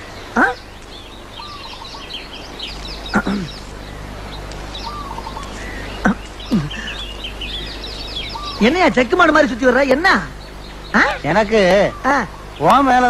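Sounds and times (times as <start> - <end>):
loud sharp bird call: 0.0 - 13.0
small birds chirping: 0.0 - 13.0.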